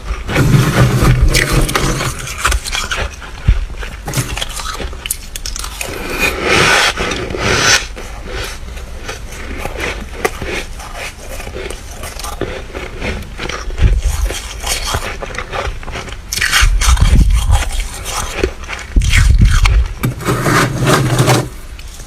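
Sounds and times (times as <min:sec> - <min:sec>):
frost crunching while chewed: 0:00.0 - 0:22.0.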